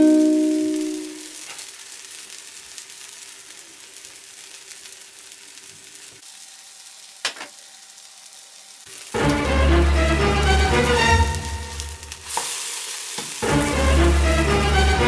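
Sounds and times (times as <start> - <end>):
pancakes sizzling in oil: 0.0 - 9.5, 10.5 - 14.9.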